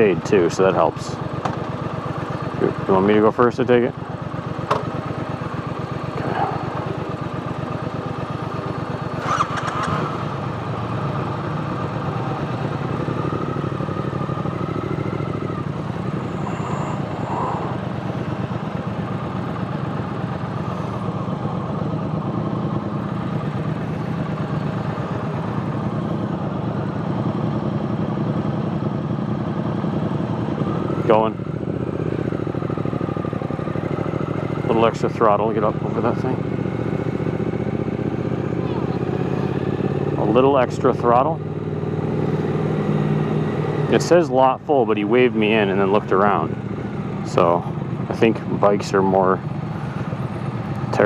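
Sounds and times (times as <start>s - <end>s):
motorcycle engine idling: 0.0s - 51.0s.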